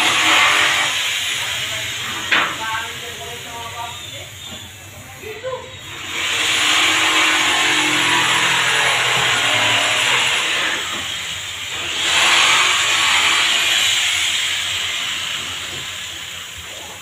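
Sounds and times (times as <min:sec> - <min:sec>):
handheld tool hissing and whining: 0:00.0 - 0:17.0.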